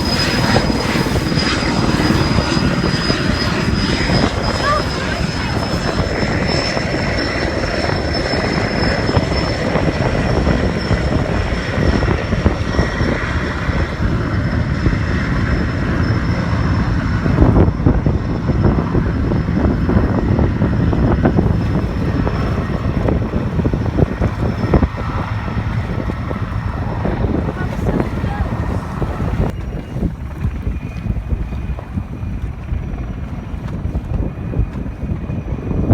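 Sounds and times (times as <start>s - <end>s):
helicopter rotor noise: 0.0s - 35.9s
helicopter turbine whine: 0.0s - 35.9s
low rumble: 0.0s - 35.9s.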